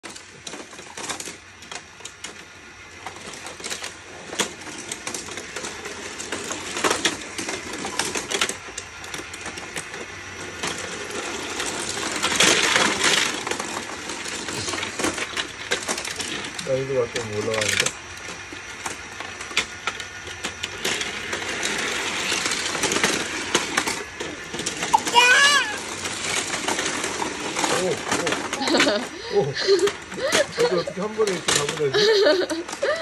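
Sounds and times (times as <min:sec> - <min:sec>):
toy cars clattering on plastic track: 0:00.0 - 0:33.0.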